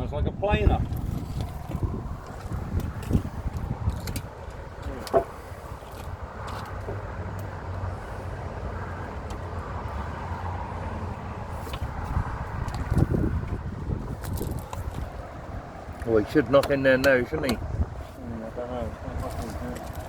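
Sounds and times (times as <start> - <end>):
engine running low rumble: 0.0 - 20.0.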